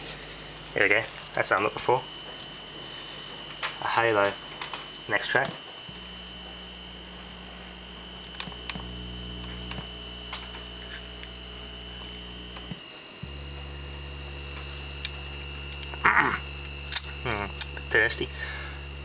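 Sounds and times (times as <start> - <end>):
steady high whine: 0.0 - 19.0
television electrical hum: 0.0 - 19.0.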